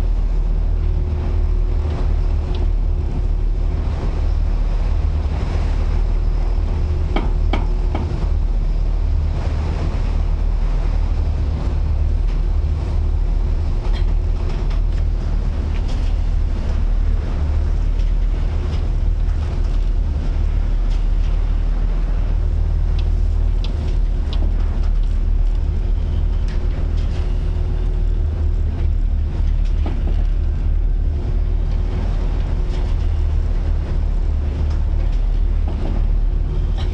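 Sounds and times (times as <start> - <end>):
rough sea: 0.0 - 36.9
ship engine droning: 0.0 - 36.9
wind buffeting microphone: 0.0 - 36.9.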